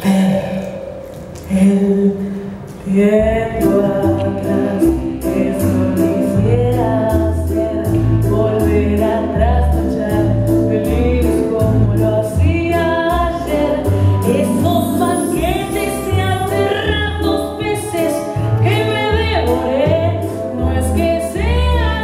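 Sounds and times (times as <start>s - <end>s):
person singing: 2.9s - 22.0s.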